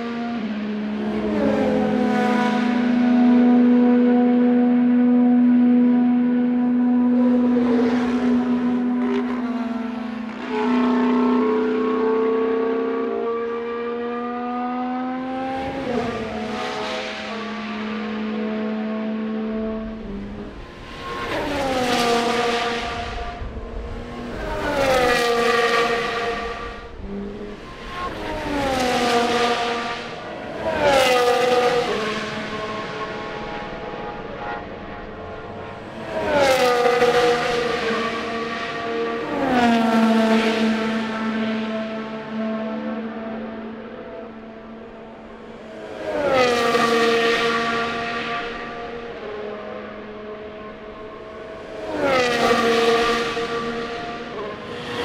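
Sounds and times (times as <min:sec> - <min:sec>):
racing cars passing at speed: 0:00.0 - 0:55.0.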